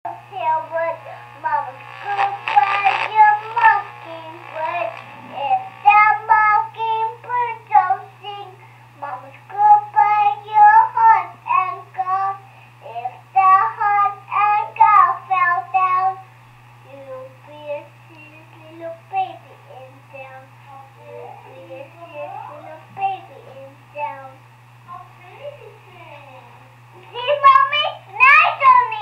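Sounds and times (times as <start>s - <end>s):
child singing through speaker: 0.1s - 16.2s, 16.9s - 24.4s, 25.0s - 29.0s
steady low hum: 0.1s - 29.0s.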